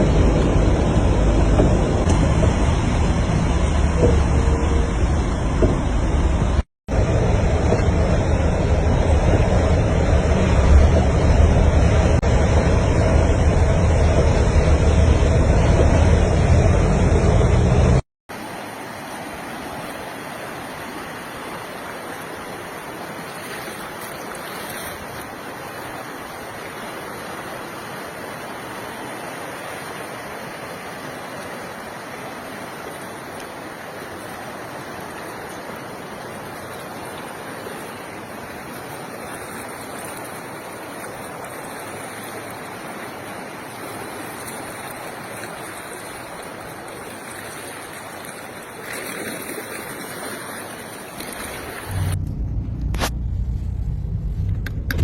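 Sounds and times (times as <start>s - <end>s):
floodwater rushing: 0.0s - 52.2s.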